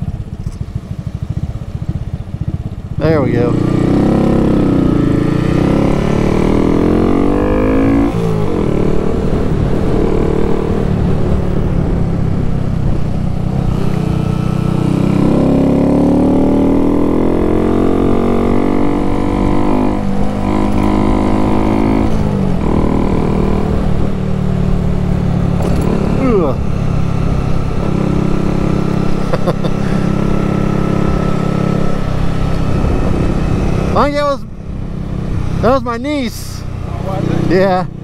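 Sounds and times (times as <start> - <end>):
low wind rumble: 0.0 - 38.0
motorcycle engine accelerating: 0.0 - 38.0.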